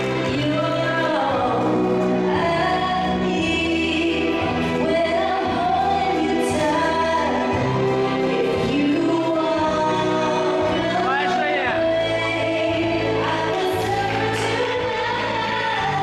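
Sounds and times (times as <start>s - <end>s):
low musical accompaniment: 0.0s - 16.0s.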